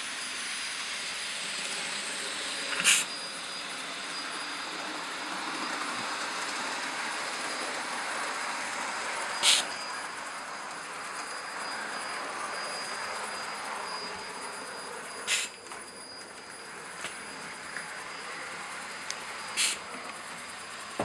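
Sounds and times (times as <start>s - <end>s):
model steam locomotive hissing: 0.0s - 21.0s.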